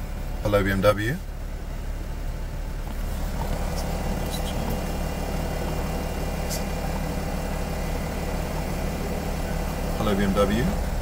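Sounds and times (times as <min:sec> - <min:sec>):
car cabin hum: 0:00.0 - 0:11.0.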